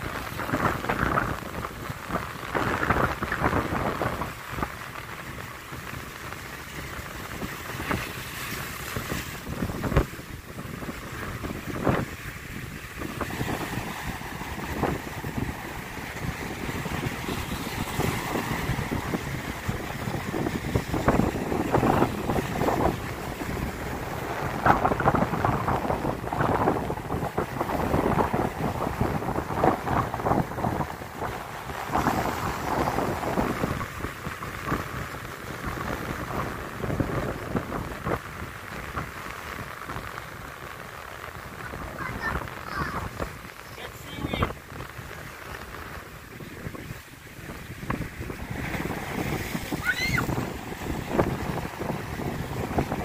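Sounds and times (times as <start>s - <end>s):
water rushing: 0.0s - 53.0s
wind buffeting microphone: 0.0s - 53.0s.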